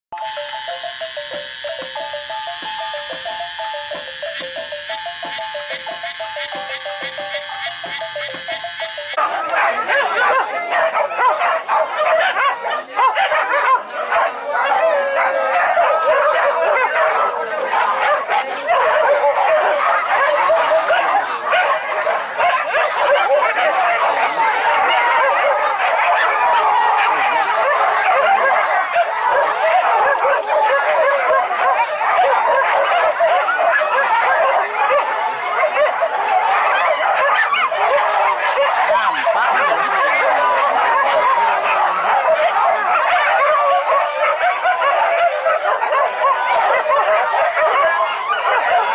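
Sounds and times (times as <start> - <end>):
dogs barking and yelping: 0.2 - 48.9.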